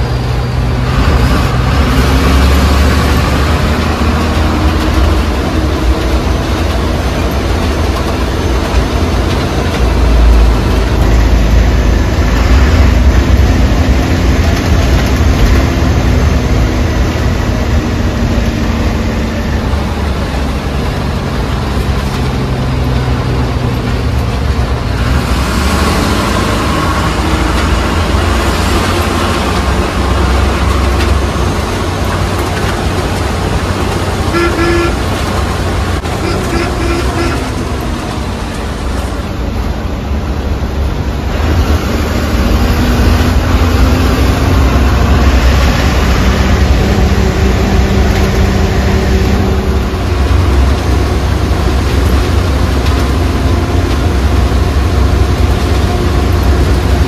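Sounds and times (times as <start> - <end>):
bus diesel engine rumbling: 0.0 - 57.0
road noise: 0.0 - 57.0.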